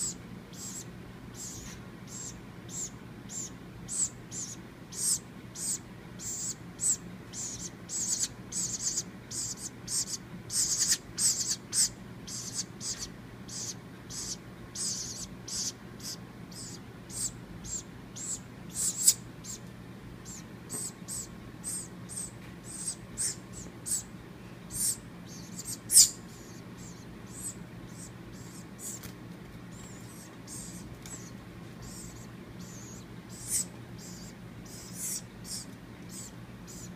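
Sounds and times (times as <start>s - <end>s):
baby woodpecker hissy calls: 0.0s - 19.6s, 20.2s - 24.1s, 24.7s - 29.1s, 29.7s - 36.9s.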